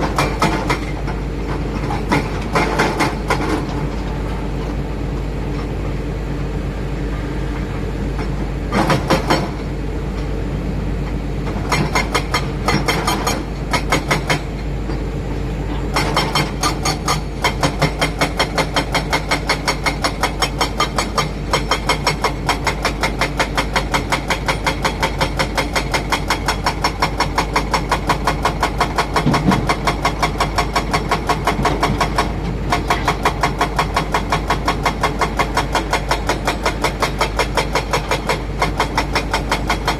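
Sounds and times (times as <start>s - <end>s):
diesel construction machinery running: 0.0s - 39.9s.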